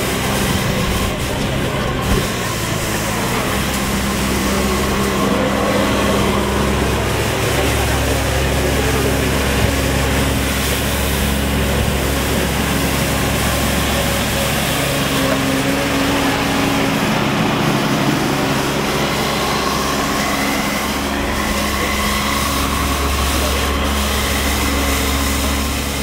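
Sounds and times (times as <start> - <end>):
floor sweeper running: 0.0 - 26.0.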